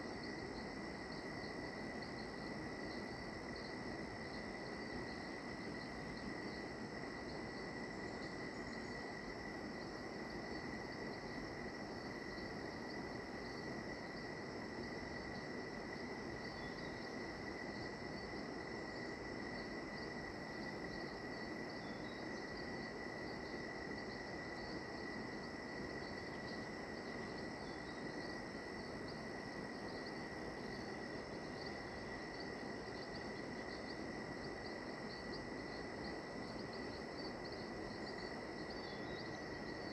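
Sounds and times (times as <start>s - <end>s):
insect chorus drone: 0.0s - 39.9s
pulsing insect trills: 0.0s - 39.9s.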